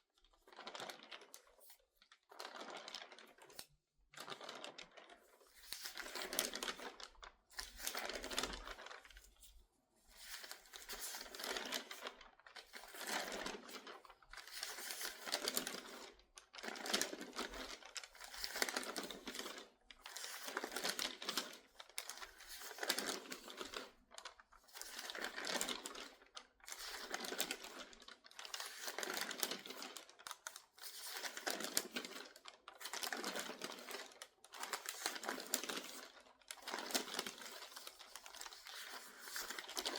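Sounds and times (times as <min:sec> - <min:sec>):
newspaper pages turning: 0:00.5 - 0:09.5, 0:10.1 - 0:39.9.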